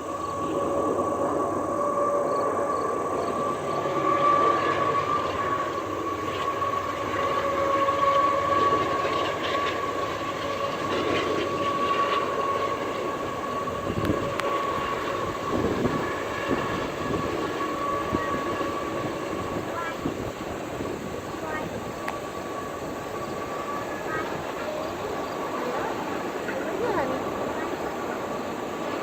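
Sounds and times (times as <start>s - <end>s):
constant high whine: 0.0s - 29.0s
train cars rumbling on rails: 0.0s - 29.0s.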